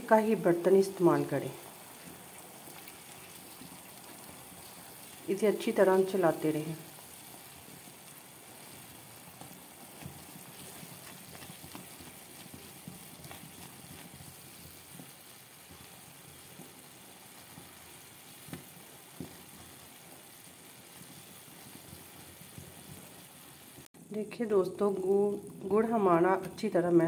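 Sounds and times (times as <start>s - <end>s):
syrup bubbling and sizzling in pan: 0.0s - 27.0s.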